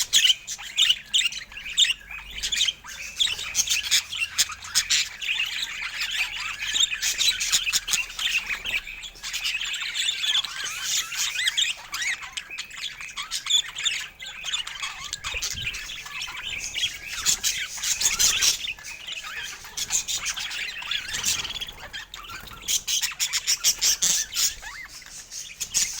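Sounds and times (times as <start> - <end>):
budgerigars chattering: 0.0 - 26.0
sharp squawks: 0.0 - 26.0.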